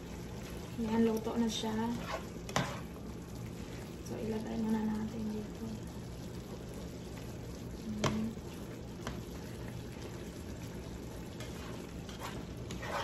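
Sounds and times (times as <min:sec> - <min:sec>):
vegetables simmering and bubbling: 0:00.0 - 0:13.0.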